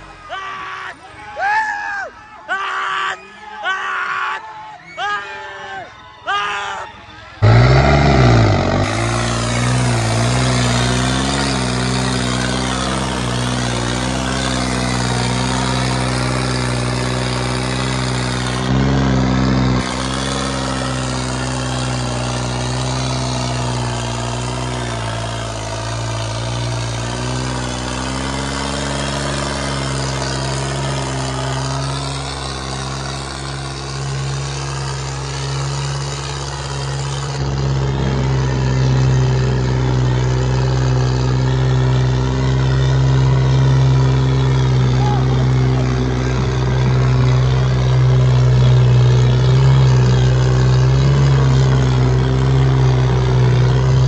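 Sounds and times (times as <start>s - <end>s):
diesel tractor engine running: 0.0s - 0.3s, 7.0s - 54.0s.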